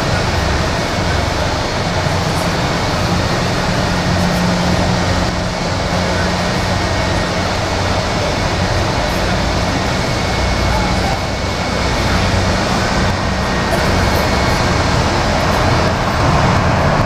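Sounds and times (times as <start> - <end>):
jet engines idling: 0.0 - 17.0.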